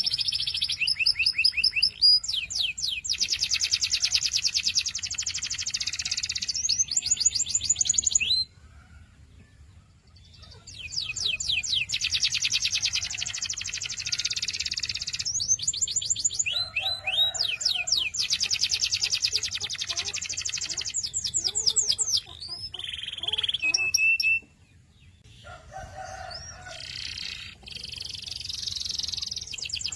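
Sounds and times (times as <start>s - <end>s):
canary singing in trills: 0.0s - 8.6s, 10.1s - 29.9s.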